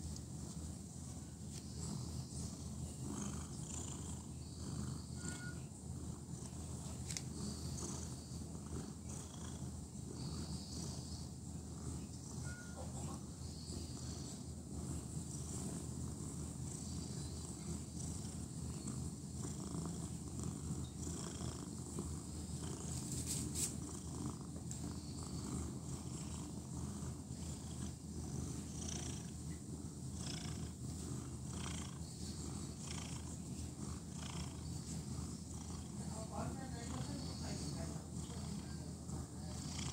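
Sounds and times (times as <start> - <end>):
cat purring: 0.1 - 39.9.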